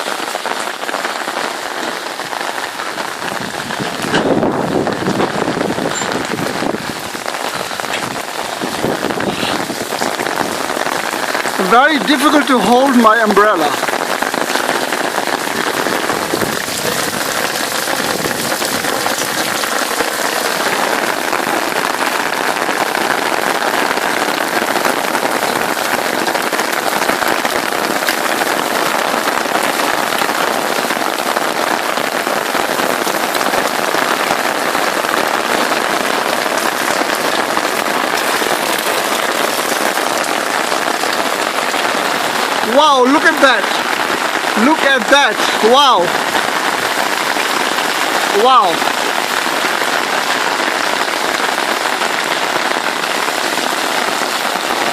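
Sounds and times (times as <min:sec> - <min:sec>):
heavy rain on an umbrella: 0:00.0 - 0:54.9.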